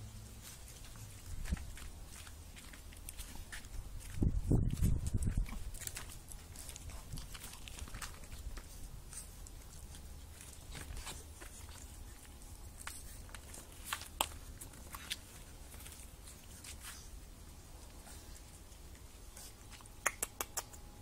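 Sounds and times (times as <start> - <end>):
puppy claws clicking on concrete: 0.7 - 17.0, 17.8 - 21.0.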